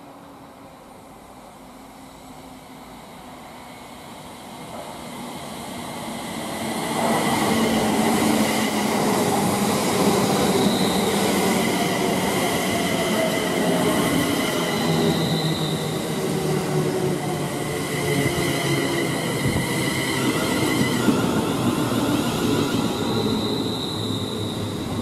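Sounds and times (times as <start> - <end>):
electric train rumbling and whining: 0.0 - 25.0.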